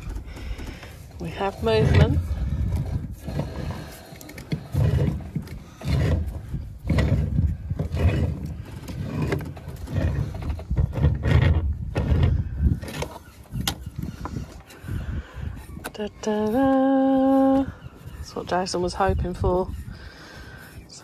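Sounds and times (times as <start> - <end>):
timber rumbling and straining: 0.0 - 21.0.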